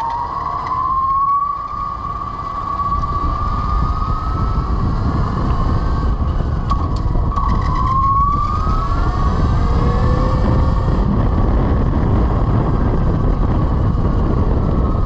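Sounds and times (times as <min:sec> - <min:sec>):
electric motorcycle motor whining: 0:00.0 - 0:15.0
wind noise on microphone: 0:00.0 - 0:15.0.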